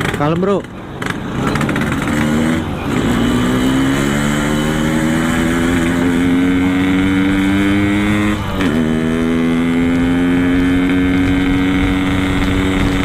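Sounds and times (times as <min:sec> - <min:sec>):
two-stroke motorcycle accelerating: 0:00.0 - 0:13.0.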